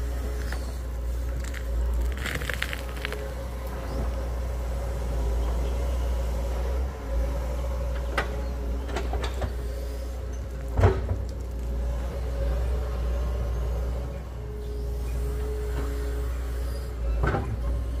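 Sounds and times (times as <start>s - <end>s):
excavator engine rumble: 0.0s - 18.0s.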